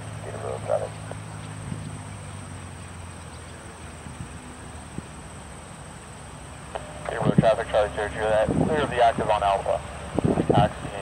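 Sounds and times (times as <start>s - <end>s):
propeller aircraft engine drone: 0.0s - 11.0s.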